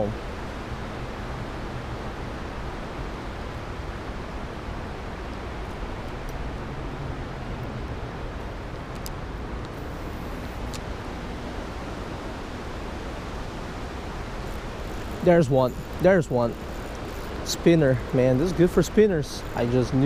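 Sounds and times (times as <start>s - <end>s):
rushing creek: 0.0s - 20.0s.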